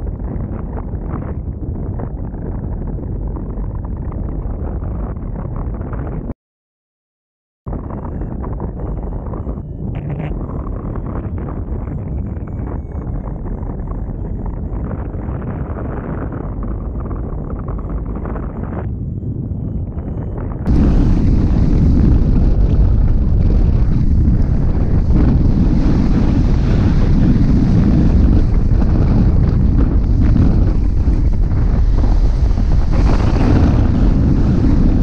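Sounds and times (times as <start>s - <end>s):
wind rumble on microphone: 0.0s - 6.4s, 7.7s - 35.0s.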